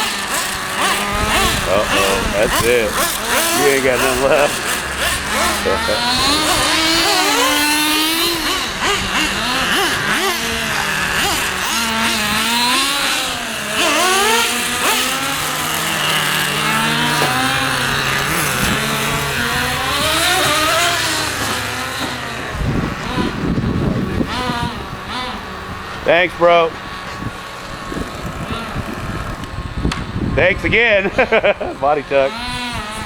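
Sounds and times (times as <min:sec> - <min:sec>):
model car engine revving: 0:00.0 - 0:33.0.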